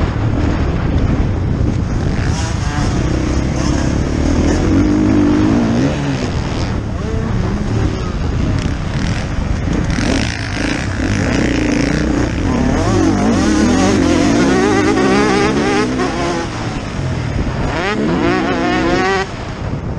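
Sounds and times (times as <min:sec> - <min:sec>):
dirt bike engine revving: 0:00.0 - 0:19.5
wind rushing over microphone: 0:00.0 - 0:19.9.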